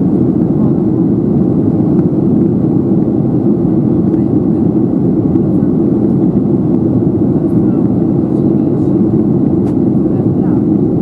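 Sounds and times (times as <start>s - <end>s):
airflow over fuselage: 0.0s - 11.0s
jet engines low rumble: 0.0s - 11.0s.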